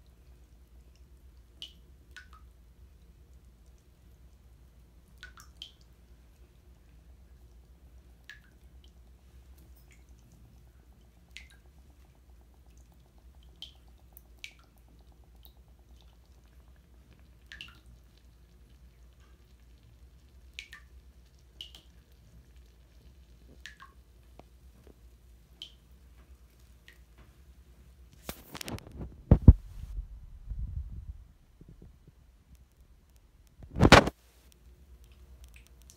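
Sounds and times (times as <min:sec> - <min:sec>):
water dripping in bathtub: 0:00.0 - 0:29.6, 0:31.6 - 0:35.9
low steady hum: 0:00.0 - 0:35.9.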